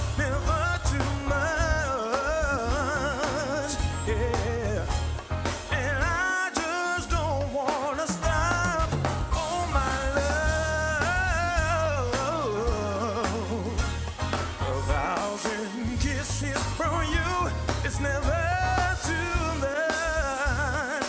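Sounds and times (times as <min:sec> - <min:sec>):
person singing: 0:00.0 - 0:05.0, 0:05.6 - 0:21.0
bass line: 0:00.0 - 0:06.3, 0:07.0 - 0:21.0
drums: 0:00.0 - 0:21.0
keyboards: 0:00.0 - 0:21.0.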